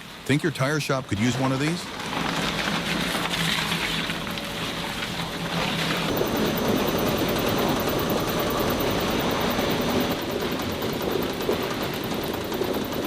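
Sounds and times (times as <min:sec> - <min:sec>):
shredding machine running: 0:01.6 - 0:13.0.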